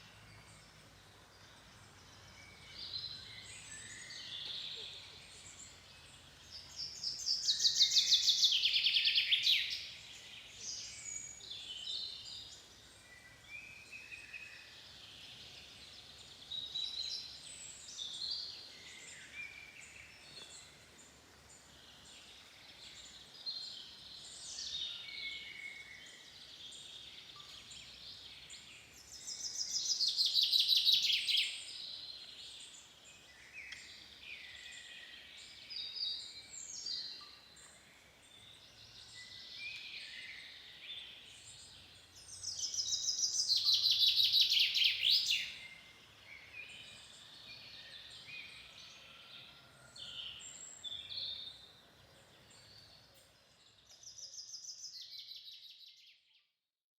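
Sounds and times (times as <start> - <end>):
bird singing loud trilled song: 0.0 - 20.8, 21.5 - 49.2, 50.2 - 56.5
other birds calling quietly: 0.0 - 55.4.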